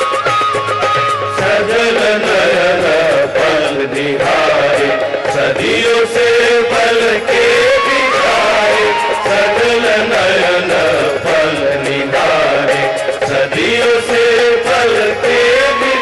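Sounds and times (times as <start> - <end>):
instrumental accompaniment: 0.0 - 16.0
percussive beat: 0.0 - 16.0
person singing devotional song: 1.4 - 16.0.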